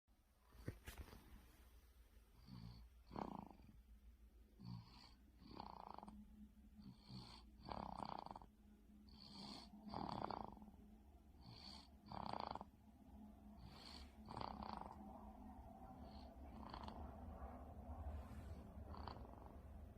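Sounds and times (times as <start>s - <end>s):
baby snoring faintly: 2.3s - 3.8s, 4.5s - 12.8s, 13.4s - 19.9s.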